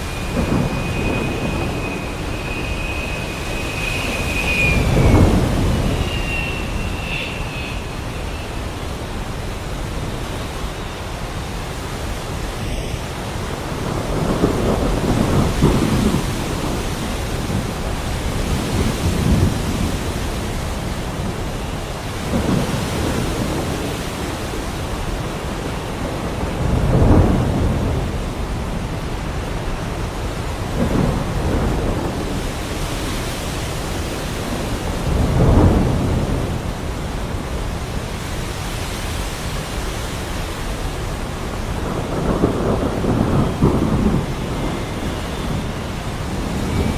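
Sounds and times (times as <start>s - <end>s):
rolling thunder: 0.0s - 38.8s, 39.4s - 46.9s
heavy rain falling: 0.0s - 46.9s.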